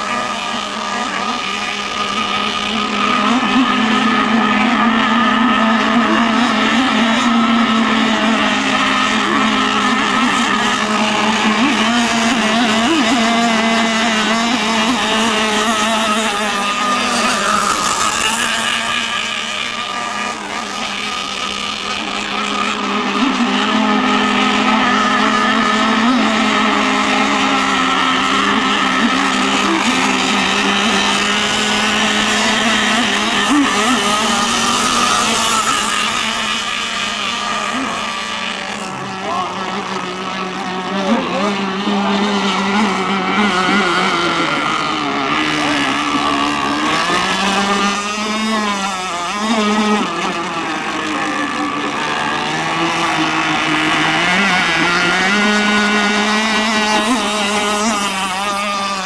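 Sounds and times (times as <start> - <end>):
high-pitched model boat engines buzzing: 0.0 - 59.0.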